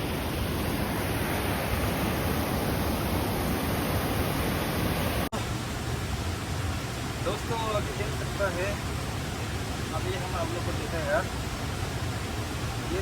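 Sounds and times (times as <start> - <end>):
fast-flowing river rushing: 0.0 - 13.0.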